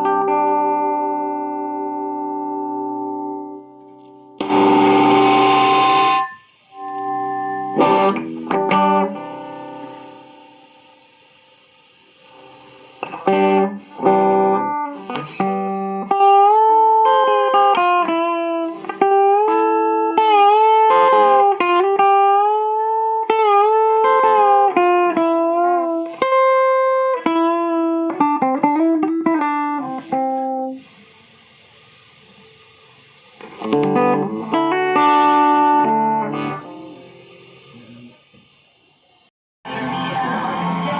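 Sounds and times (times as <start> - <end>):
electric guitar playing: 0.0 - 38.6.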